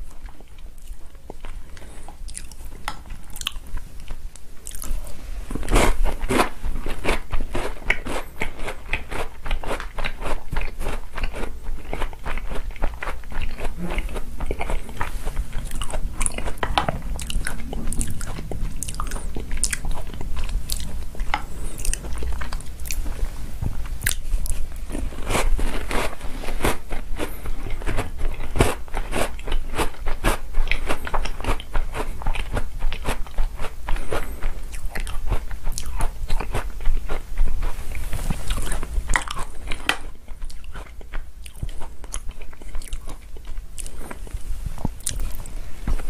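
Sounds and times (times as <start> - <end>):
crunching of cookies: 0.0 - 23.2, 23.9 - 37.8, 38.4 - 46.0.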